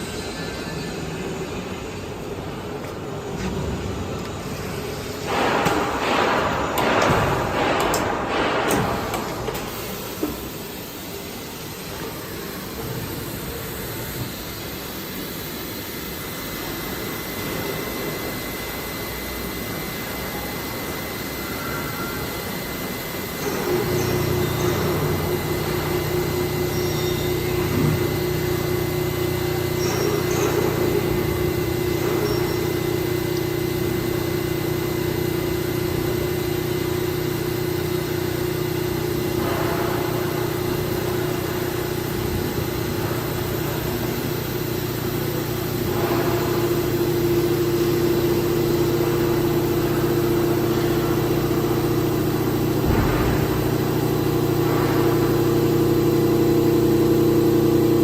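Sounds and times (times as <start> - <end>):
machining center humming: 0.0 - 58.0.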